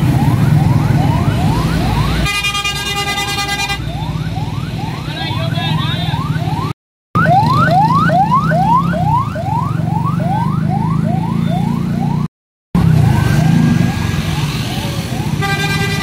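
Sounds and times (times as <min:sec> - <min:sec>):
emergency siren yelping: 0:00.0 - 0:02.4, 0:03.0 - 0:15.9
traffic engines rumbling: 0:00.0 - 0:16.0.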